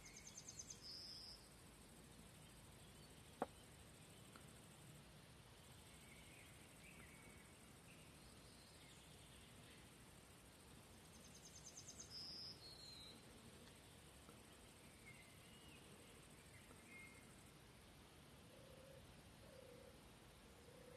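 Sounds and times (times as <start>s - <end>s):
faint bird song: 0.0s - 20.9s.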